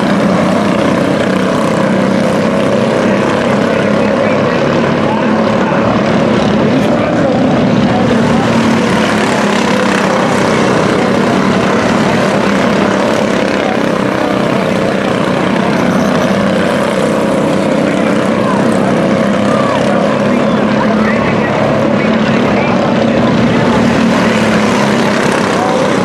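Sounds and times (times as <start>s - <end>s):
racing truck engines: 0.0s - 26.0s.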